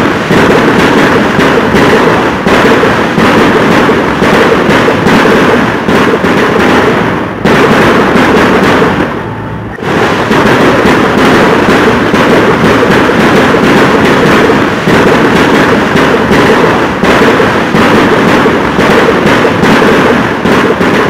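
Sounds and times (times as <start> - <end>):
fireworks and firecrackers banging: 0.0 - 21.0.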